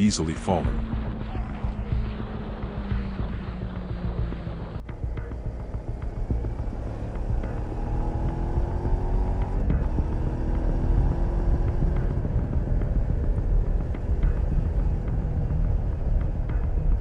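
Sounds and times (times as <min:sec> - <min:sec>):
road and wind rumble: 0:00.0 - 0:17.0
vehicle engine accelerating: 0:00.0 - 0:17.0.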